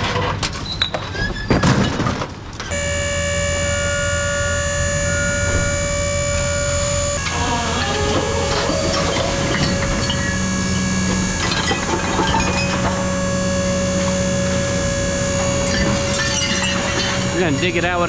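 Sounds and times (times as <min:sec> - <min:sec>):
heavy engine running: 0:02.7 - 0:18.0.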